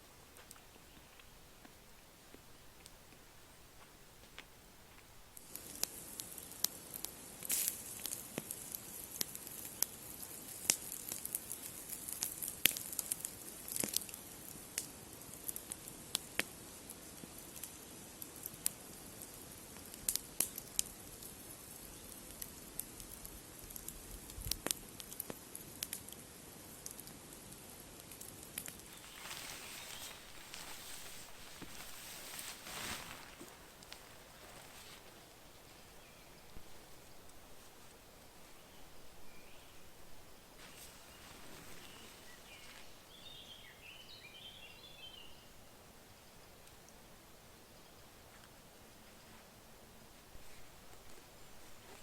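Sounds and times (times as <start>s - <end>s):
steady hiss: 0.0s - 52.0s
campfire crackling and popping: 0.3s - 38.4s, 40.5s - 43.8s, 50.4s - 52.0s.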